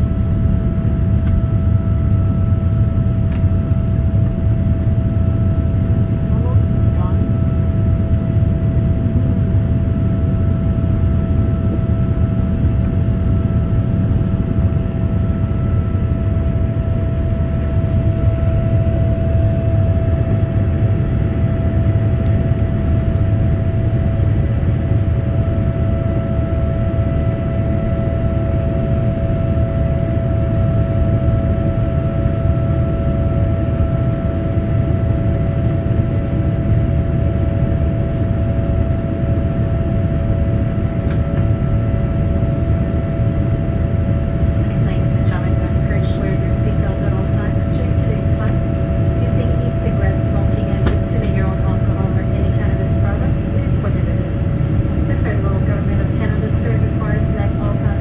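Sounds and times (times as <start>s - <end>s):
jet engine rumble: 0.0s - 58.0s
steady whining tone: 0.0s - 58.0s.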